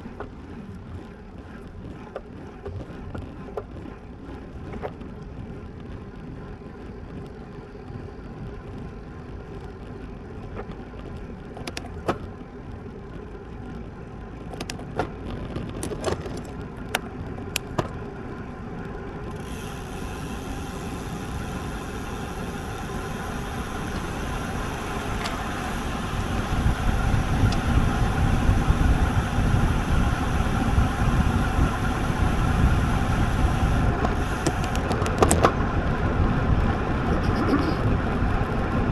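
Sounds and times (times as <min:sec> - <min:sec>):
bike tyres on pavement: 0:00.0 - 0:37.0
wind buffeting microphone: 0:00.0 - 0:38.9.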